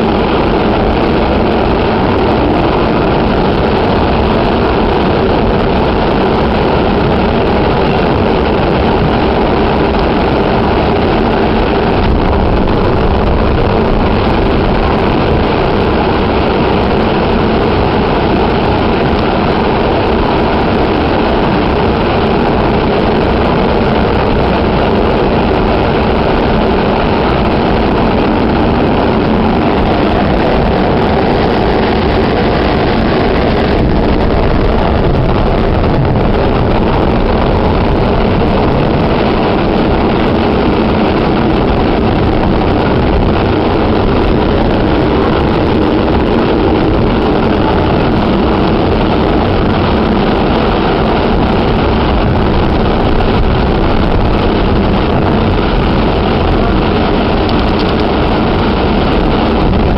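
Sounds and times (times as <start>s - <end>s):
electric train running on track: 0.0s - 59.9s.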